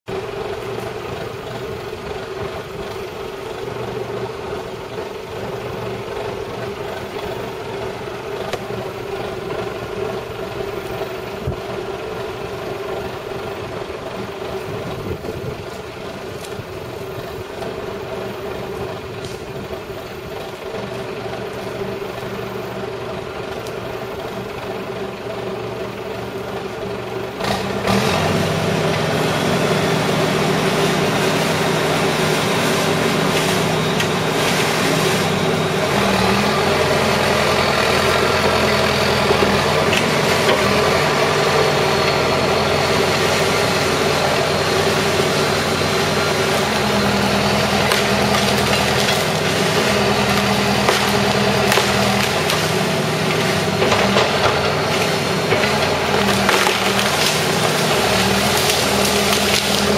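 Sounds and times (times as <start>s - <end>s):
loader engine idling and revving: 0.0s - 59.9s.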